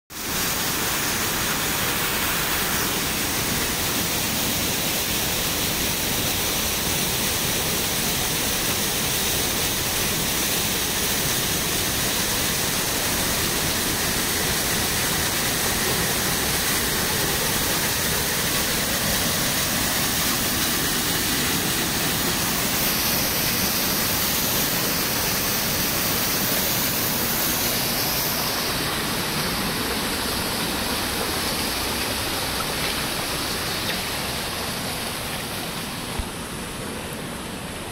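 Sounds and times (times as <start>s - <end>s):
small waterfall rushing: 0.1s - 37.9s.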